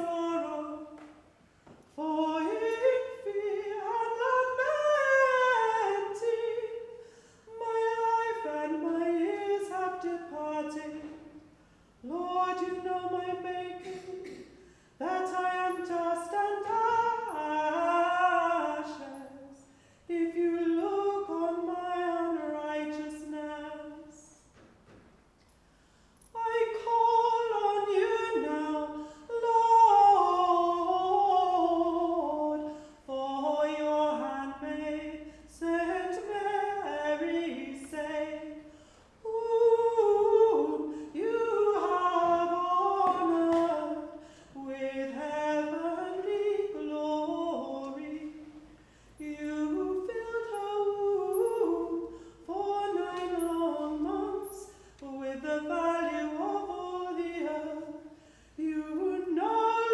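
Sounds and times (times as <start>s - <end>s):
woman singing unaccompanied: 0.0s - 1.2s, 2.0s - 24.4s, 26.3s - 48.6s, 49.2s - 59.9s.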